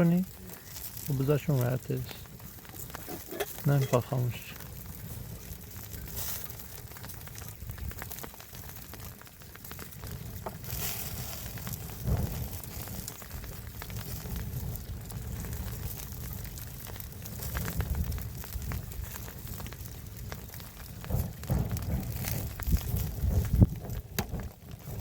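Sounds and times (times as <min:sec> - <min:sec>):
cooking fire crackling: 0:00.0 - 0:25.0
fire popping: 0:00.0 - 0:25.0.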